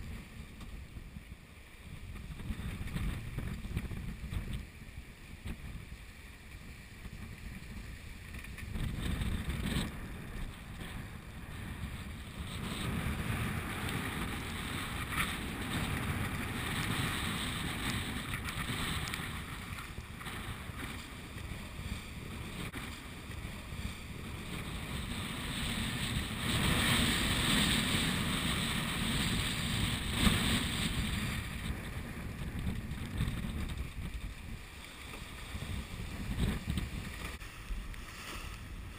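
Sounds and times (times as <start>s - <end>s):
wind buffeting microphone: 0.0s - 38.9s
waves breaking against boat: 0.1s - 38.9s.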